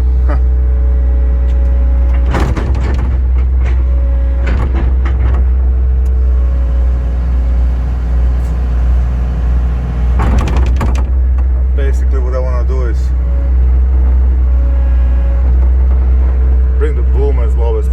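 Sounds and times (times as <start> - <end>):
excavator diesel engine running: 0.0 - 17.9
hydraulic whine: 0.0 - 17.9
metal clanks: 1.4 - 16.4.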